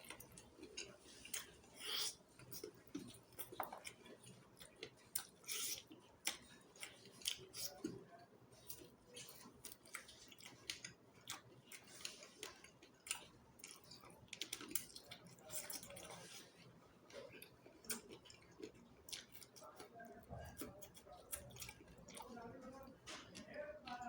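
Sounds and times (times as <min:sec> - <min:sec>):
person chewing with wet smacks: 0:00.0 - 0:24.0.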